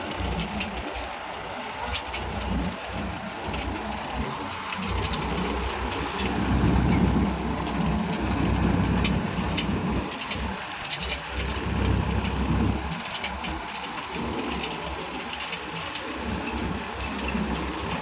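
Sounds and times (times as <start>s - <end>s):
sharp clicks and crackles: 0.0s - 18.0s
tractor diesel engine running: 0.0s - 18.0s.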